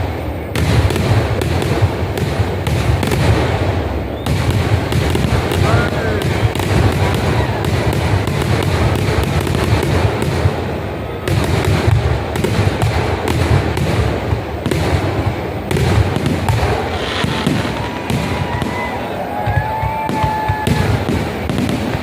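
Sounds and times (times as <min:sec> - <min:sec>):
rapid firecracker explosions: 0:00.0 - 0:22.0.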